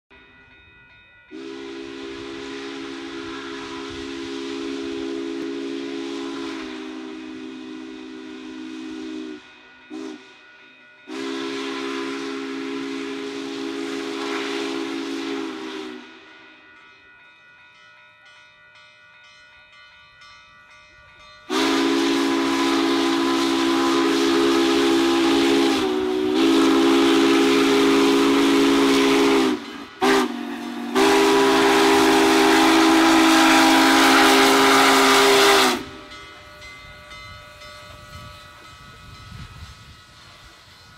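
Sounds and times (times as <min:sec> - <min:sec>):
steam locomotive chime whistle: 0:00.1 - 0:18.4, 0:19.0 - 0:40.9.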